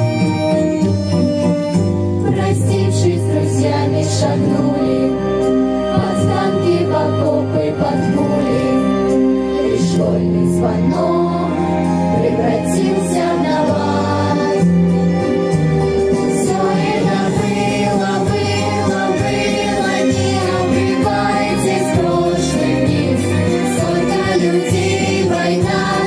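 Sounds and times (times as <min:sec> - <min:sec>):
group singing over backing track: 0:02.2 - 0:15.1, 0:16.1 - 0:26.0.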